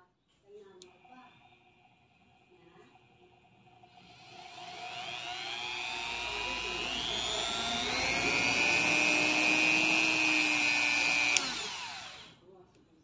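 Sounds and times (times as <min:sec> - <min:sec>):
rotary tool whine: 0:00.8 - 0:12.4.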